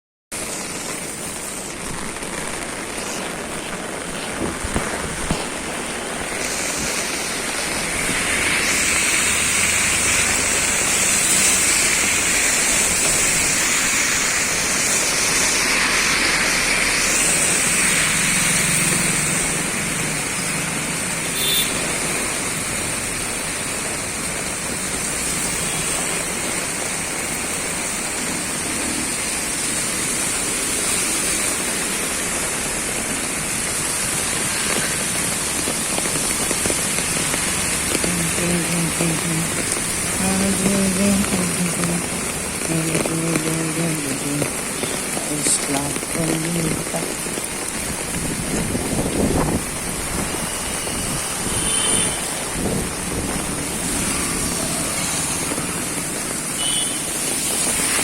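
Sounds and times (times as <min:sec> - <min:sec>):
steady rainfall: 0:00.3 - 0:58.0.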